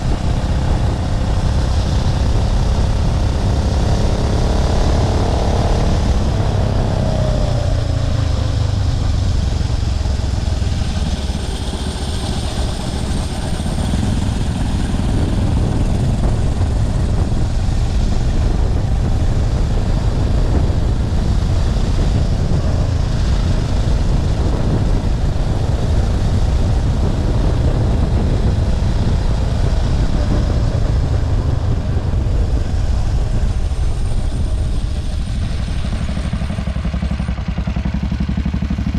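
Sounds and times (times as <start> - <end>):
motorbike engine running: 0.0 - 38.9
wind buffeting on microphone: 0.0 - 38.9.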